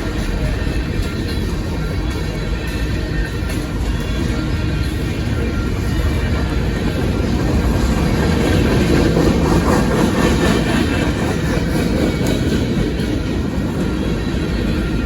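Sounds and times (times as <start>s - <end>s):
freight train rumbling: 0.0s - 15.0s
wheels clattering over rails: 0.0s - 15.0s.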